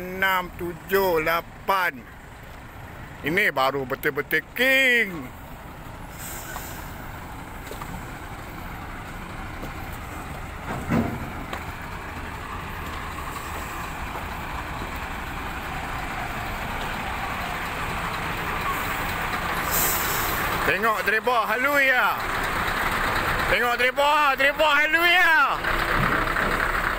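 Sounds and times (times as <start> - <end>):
diesel trucks idling: 0.0 - 26.9.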